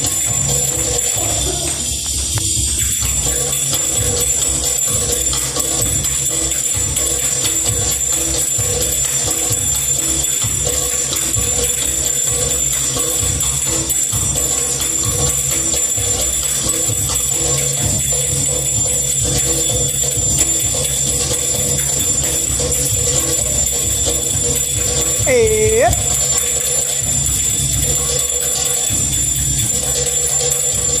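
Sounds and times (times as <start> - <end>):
belly dance music: 0.0 - 31.0
jingling percussion: 0.0 - 31.0
steady drum beat: 0.0 - 31.0.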